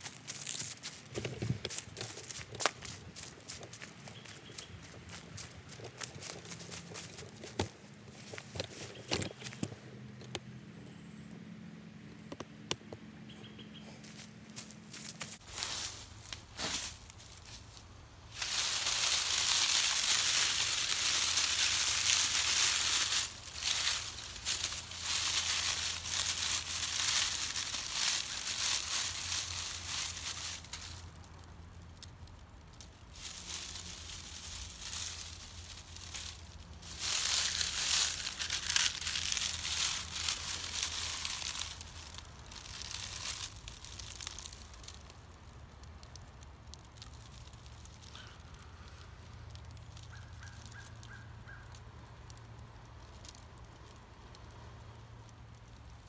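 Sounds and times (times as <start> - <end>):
dry leaves crunching in hands: 0.0 - 9.7, 13.7 - 56.0.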